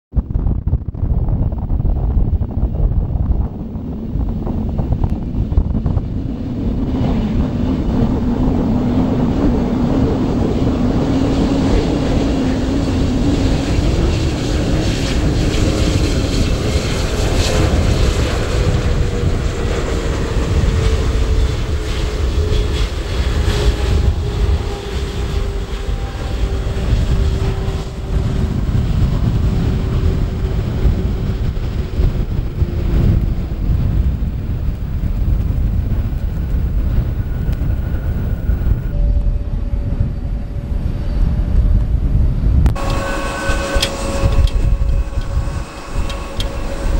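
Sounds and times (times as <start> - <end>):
jet airliner rumble and whine: 0.1 - 46.9.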